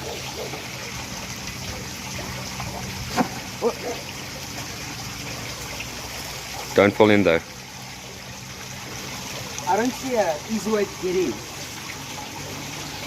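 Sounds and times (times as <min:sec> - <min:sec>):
water trickling into drain: 0:00.0 - 0:13.0.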